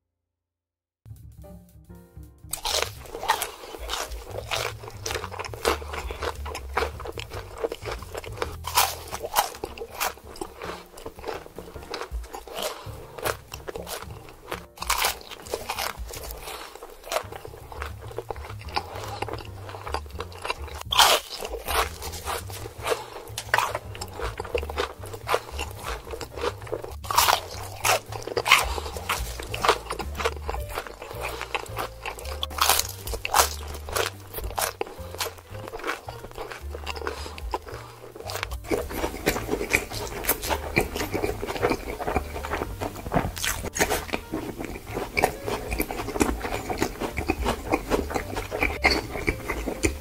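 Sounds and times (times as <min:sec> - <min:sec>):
quiet background music: 0:01.1 - 0:50.0
crunchy chewing and biting: 0:02.5 - 0:50.0.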